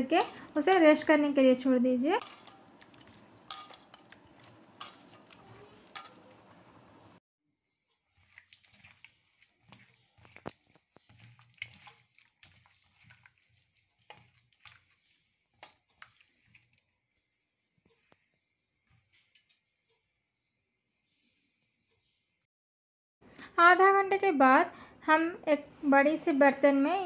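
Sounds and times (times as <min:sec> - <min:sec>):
hand mixing fish wet squelching: 0:00.0 - 0:22.3.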